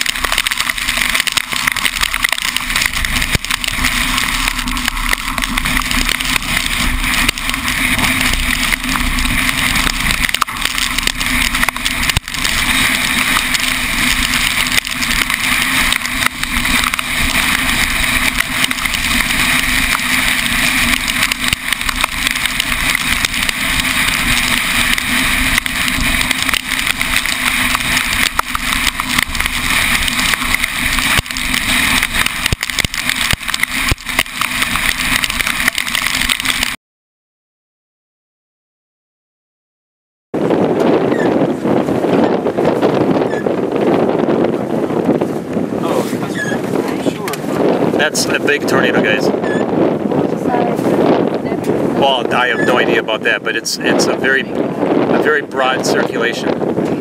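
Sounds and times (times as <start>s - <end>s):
wind and road noise: 0.0s - 36.8s, 40.4s - 57.0s.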